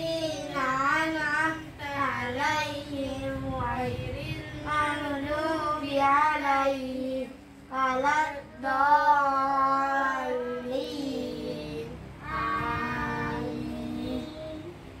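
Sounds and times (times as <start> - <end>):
children chanting: 0.0 - 14.8.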